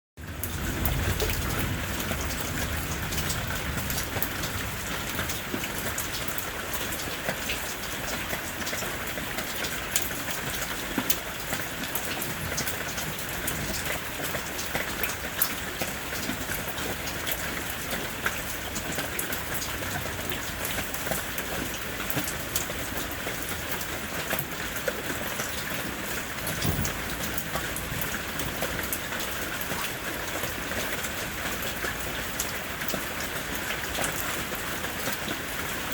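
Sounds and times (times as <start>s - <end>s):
raindrops ticking on surface: 0.2s - 35.9s
steady rain falling: 0.2s - 35.9s.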